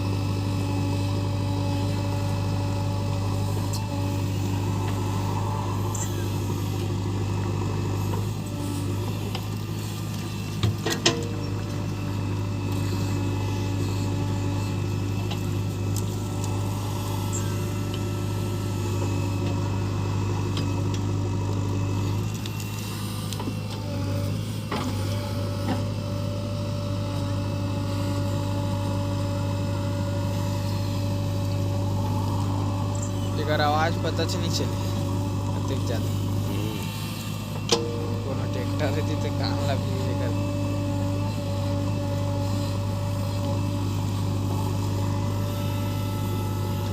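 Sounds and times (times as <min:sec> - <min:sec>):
diesel engine humming: 0:00.0 - 0:46.9.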